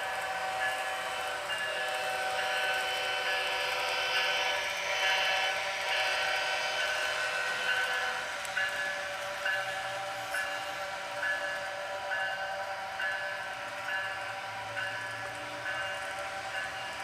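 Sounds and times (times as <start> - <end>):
model locomotive bell ringing: 0.0 - 17.0
model locomotive engine noise: 0.0 - 17.0.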